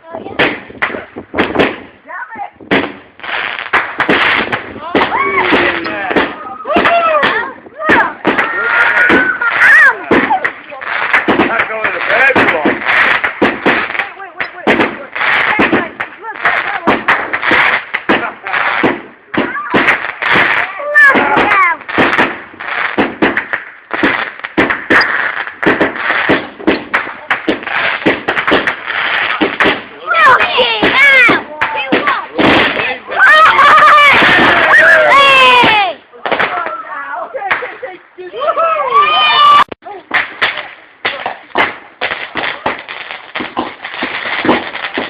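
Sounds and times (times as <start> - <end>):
fireworks bangs: 0.0 - 45.0
fireworks crackling: 0.0 - 45.0.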